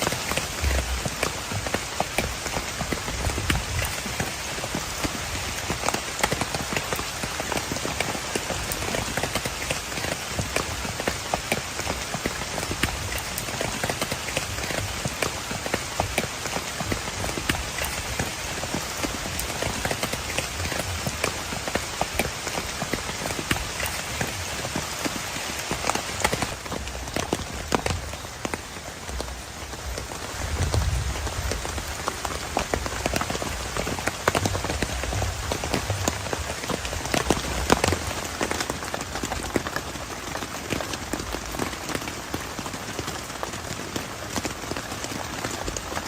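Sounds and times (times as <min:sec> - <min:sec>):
rain drops pattering: 0:00.0 - 0:46.0.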